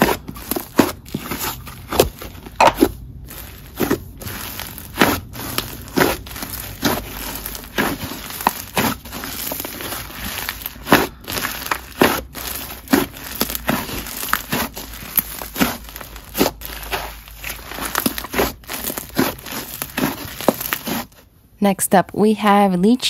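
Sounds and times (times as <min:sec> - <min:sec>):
slime popping and crackling: 0:00.0 - 0:21.2.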